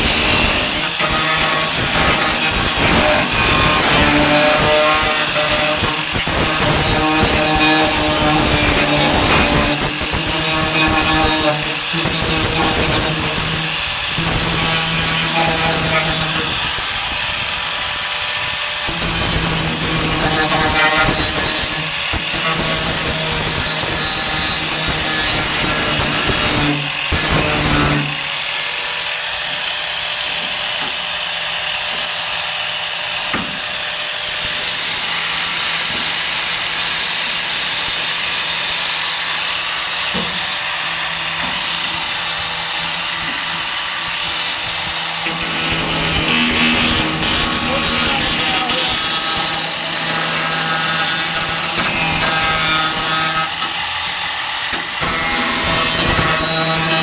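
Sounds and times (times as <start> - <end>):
angle grinder on sheet metal: 0.0 - 57.0.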